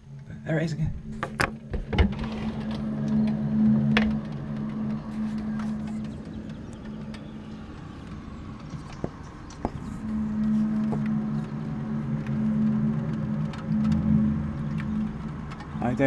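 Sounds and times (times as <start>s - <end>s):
low droning hum: 0.0s - 16.0s.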